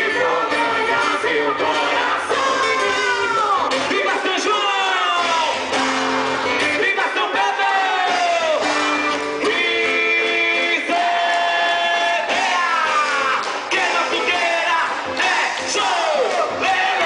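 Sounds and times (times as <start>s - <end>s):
crowd shouting: 0.0s - 17.0s
live music with singing: 0.0s - 17.0s.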